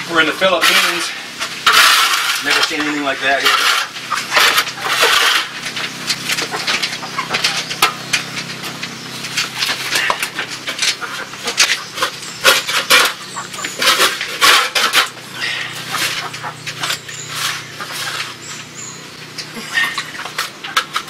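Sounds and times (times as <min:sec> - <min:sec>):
metal shovel scraping on concrete: 0:00.1 - 0:08.5, 0:09.2 - 0:21.0.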